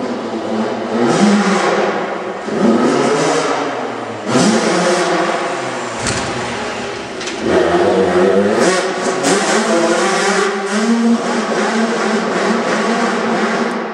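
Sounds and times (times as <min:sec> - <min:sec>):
motorbike engine revving: 0:00.2 - 0:13.9.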